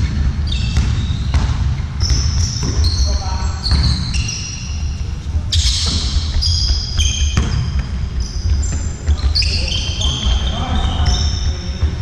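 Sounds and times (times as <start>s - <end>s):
ball bouncing on floor: 0.0s - 4.2s, 5.5s - 12.0s
high squeaks: 2.0s - 11.7s.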